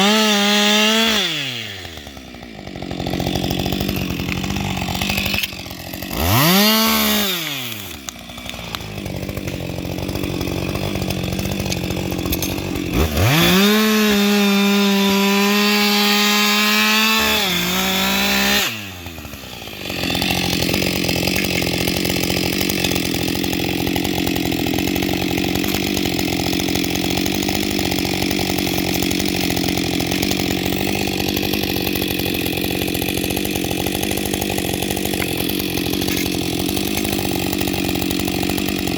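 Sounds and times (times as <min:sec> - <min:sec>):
chainsaw revving: 0:00.0 - 0:38.9
chain cutting into wood: 0:02.9 - 0:38.9.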